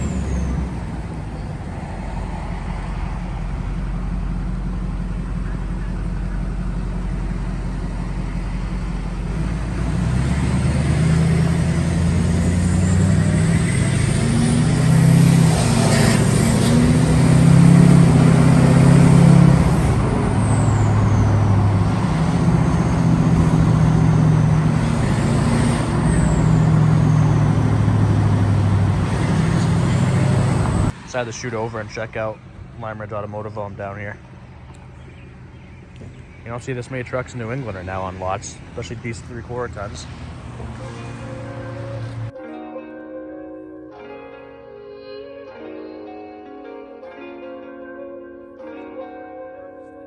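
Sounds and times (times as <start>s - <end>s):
diesel truck engine revving: 0.0s - 42.4s.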